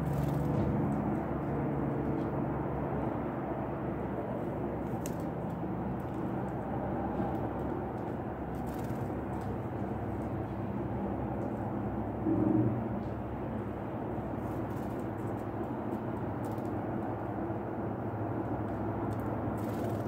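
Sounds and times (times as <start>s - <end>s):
low outdoor hum: 0.0s - 20.0s.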